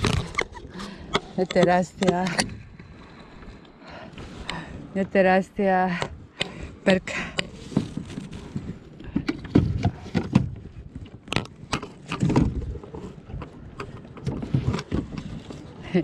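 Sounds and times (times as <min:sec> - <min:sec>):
gear clicking on plastic kayak: 0:00.0 - 0:04.7, 0:05.8 - 0:16.0
wind buffeting microphone: 0:00.0 - 0:16.0.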